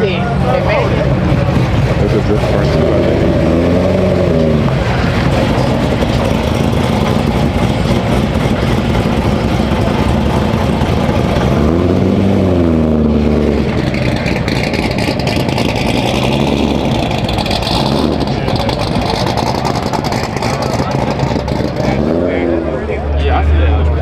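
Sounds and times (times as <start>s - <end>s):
car engine driving: 0.0s - 24.0s
road noise: 0.0s - 24.0s.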